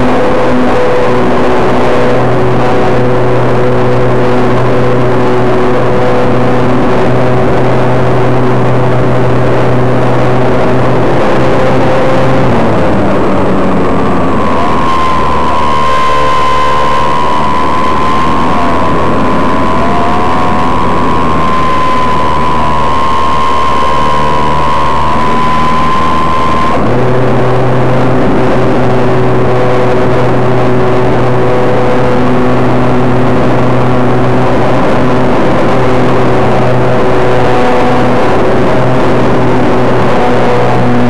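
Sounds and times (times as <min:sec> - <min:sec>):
model airplane motor whine: 0:00.0 - 0:41.0
rushing air: 0:00.0 - 0:41.0.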